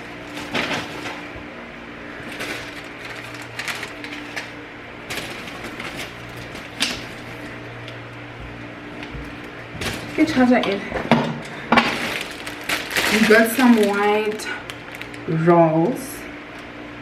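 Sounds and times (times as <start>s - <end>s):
steady low hum: 0.0s - 17.0s
packaging rustling and knocking: 0.3s - 1.3s, 2.2s - 15.2s.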